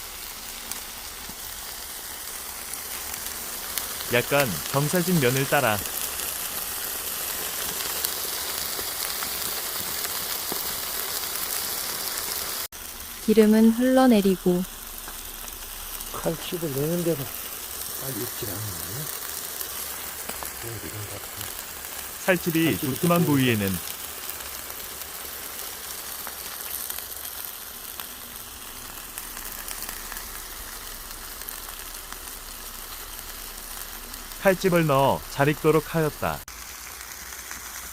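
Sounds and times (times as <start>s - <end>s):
chickens sizzling on a grill: 0.0s - 37.9s.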